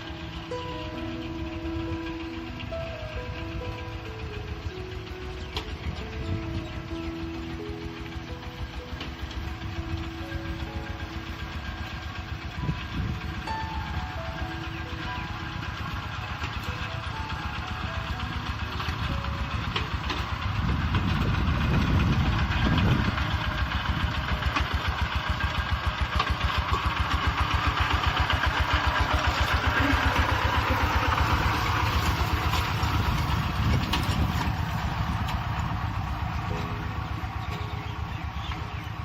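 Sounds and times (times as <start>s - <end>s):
diesel tractor engine chugging: 0.0s - 39.0s.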